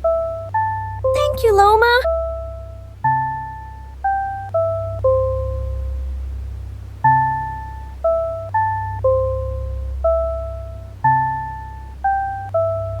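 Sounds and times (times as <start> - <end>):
steady low bass: 0.0 - 13.0.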